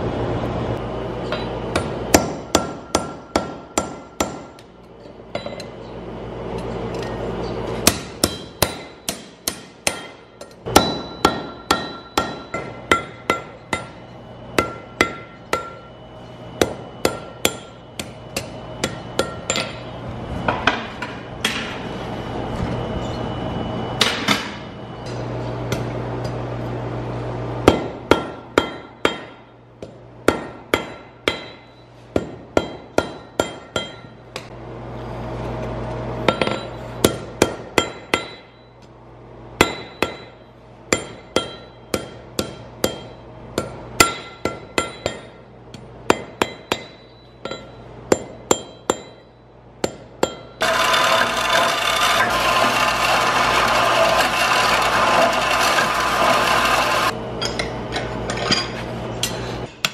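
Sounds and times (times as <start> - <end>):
steady low hum: 0.0 - 59.9
hammer striking steel on anvil: 1.2 - 5.8, 7.7 - 16.0, 16.6 - 19.9, 24.0 - 26.4, 27.6 - 34.6, 36.2 - 38.9, 39.6 - 59.9.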